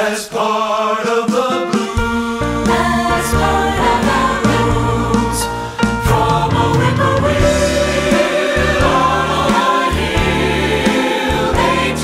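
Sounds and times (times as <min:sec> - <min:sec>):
choir singing jazzy blues: 0:00.0 - 0:12.0
instrumental accompaniment with bass: 0:01.8 - 0:12.0.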